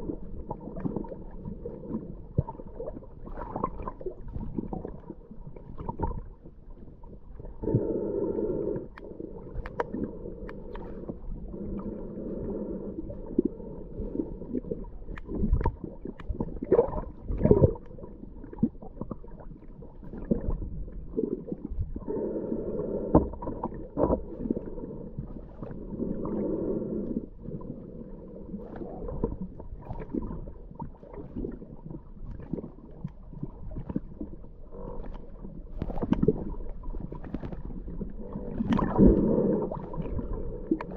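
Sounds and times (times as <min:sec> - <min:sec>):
low droning hum: 0:00.0 - 0:40.9
low underwater rumble: 0:00.0 - 0:40.9.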